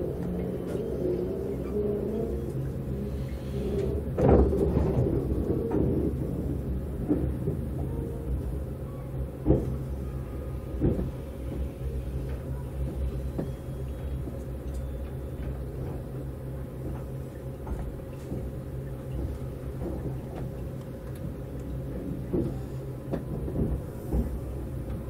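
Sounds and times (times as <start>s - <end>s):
train running hum: 0.0s - 25.0s.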